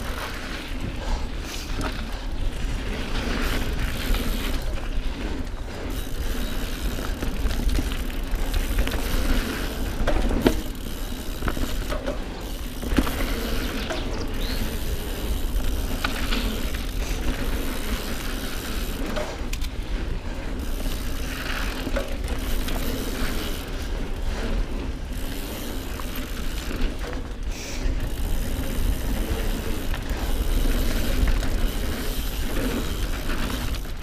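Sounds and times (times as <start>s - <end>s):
bike mechanism clicking and rattling: 0.0s - 34.0s
bike tyres rumbling on dirt: 0.0s - 34.0s.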